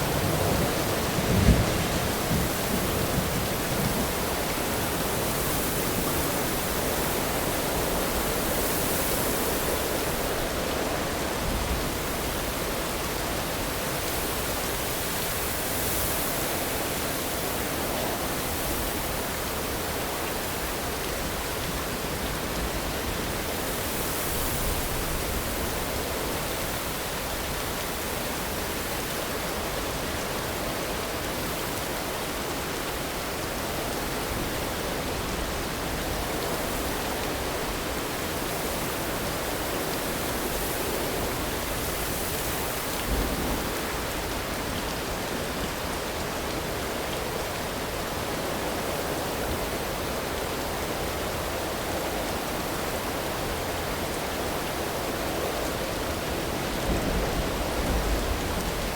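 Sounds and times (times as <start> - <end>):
steady rainfall hiss: 0.0 - 58.9.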